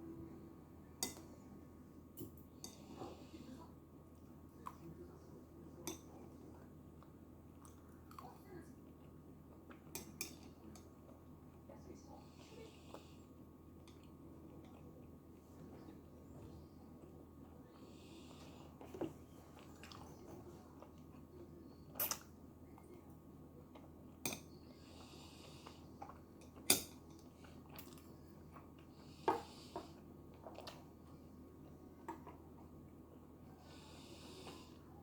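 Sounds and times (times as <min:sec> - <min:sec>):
soft chewing and mouth sounds: 0:00.0 - 0:35.0.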